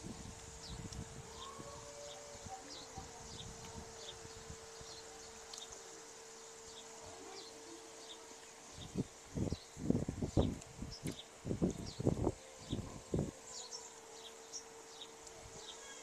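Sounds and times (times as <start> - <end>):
steady faint hum: 0.0 - 16.0.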